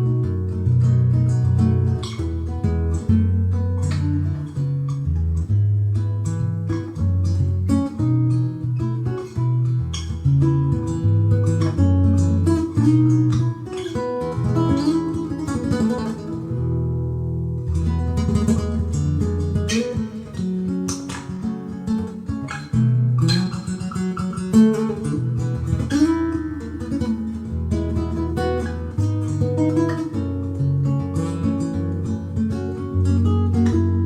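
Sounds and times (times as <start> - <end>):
acoustic guitar: 0.0 - 34.0.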